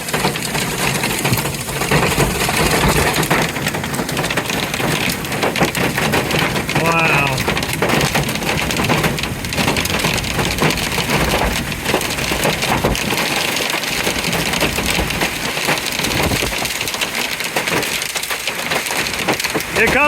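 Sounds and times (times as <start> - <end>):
hail and heavy rain pelting: 0.0 - 20.0.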